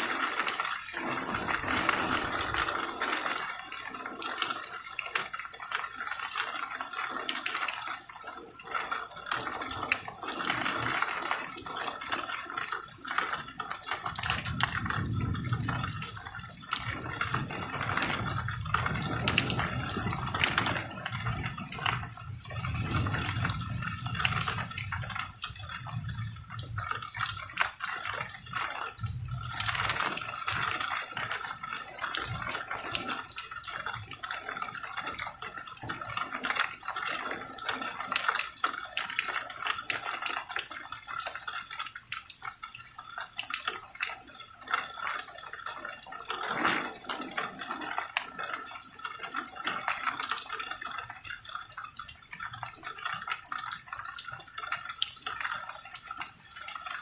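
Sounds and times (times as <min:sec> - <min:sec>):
rain dripping and pattering: 0:00.0 - 0:57.0.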